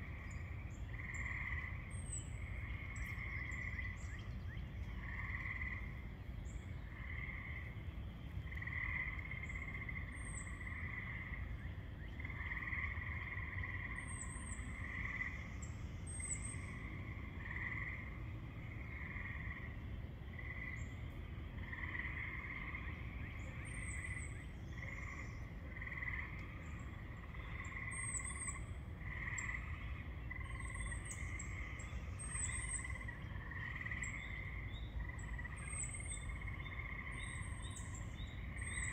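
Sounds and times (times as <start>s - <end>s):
frogs trilling: 0.0s - 38.9s.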